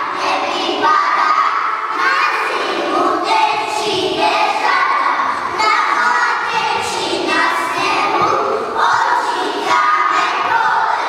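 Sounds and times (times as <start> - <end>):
children singing with echo: 0.0 - 11.0.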